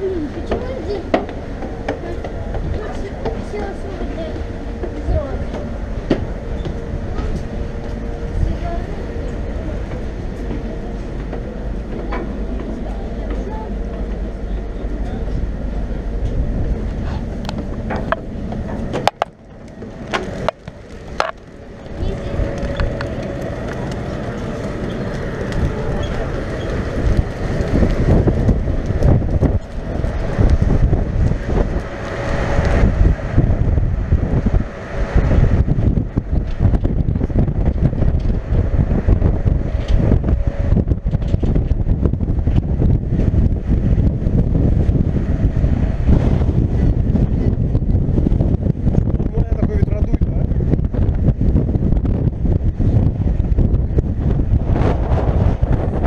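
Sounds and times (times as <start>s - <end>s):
wind rumbling across microphone: 0.0s - 56.0s.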